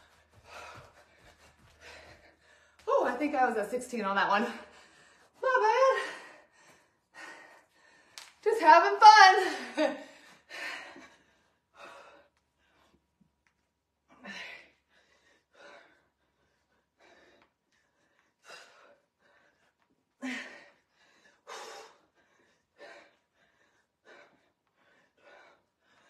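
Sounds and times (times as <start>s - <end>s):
woman breathing hard: 0.0s - 2.8s, 4.5s - 8.4s, 9.6s - 13.1s, 14.1s - 26.0s.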